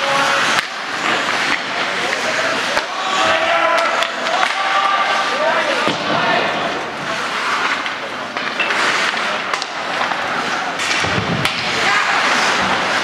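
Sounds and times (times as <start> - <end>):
hockey sticks and puck clacking: 0.0 - 13.0
skate blades scraping on ice: 0.0 - 13.0.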